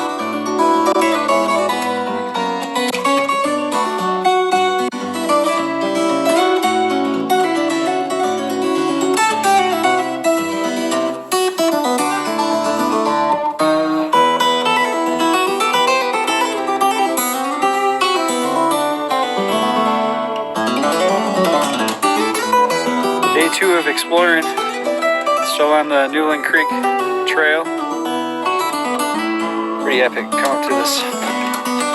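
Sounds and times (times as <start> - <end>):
plucked acoustic guitar music: 0.0 - 31.9.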